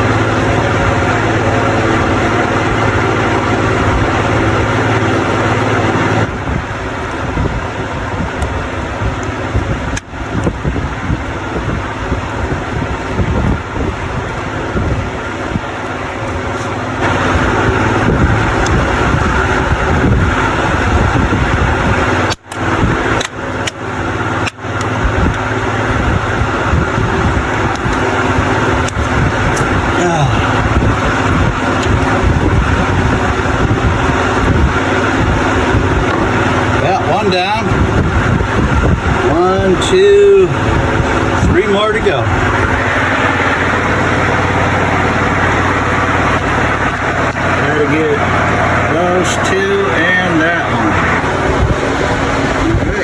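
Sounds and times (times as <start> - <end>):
electric fan whirring: 0.0 - 53.0.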